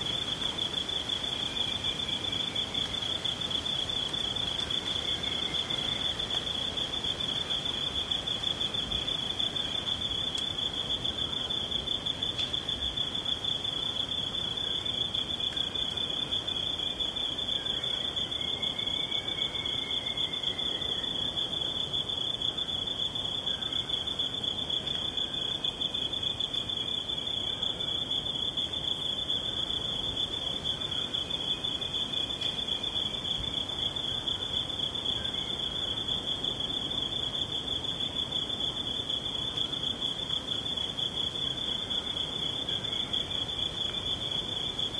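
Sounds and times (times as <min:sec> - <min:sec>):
crickets trilling: 0:00.0 - 0:44.9.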